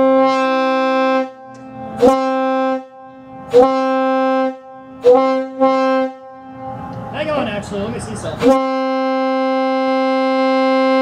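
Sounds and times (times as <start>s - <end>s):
locomotive air horn blasts: 0.0s - 7.1s, 8.3s - 11.0s.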